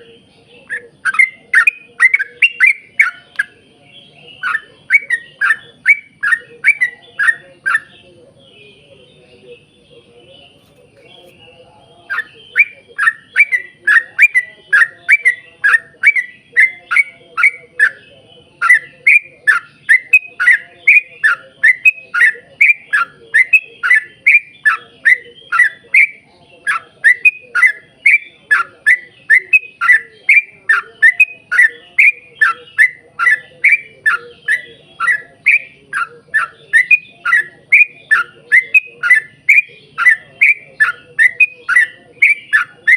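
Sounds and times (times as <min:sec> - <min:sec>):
bird singing whistled notes: 0:00.0 - 0:42.9.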